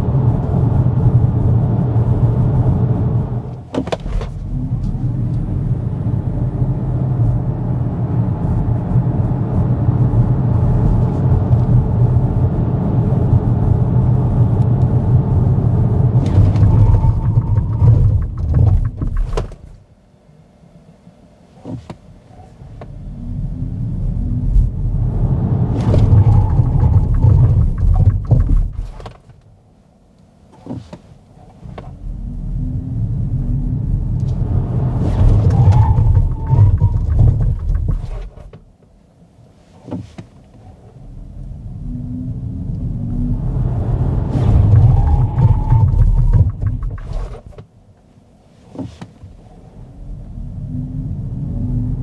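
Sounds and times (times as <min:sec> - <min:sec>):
road and tyre rumble in car: 0:00.0 - 0:20.2, 0:20.8 - 0:52.0.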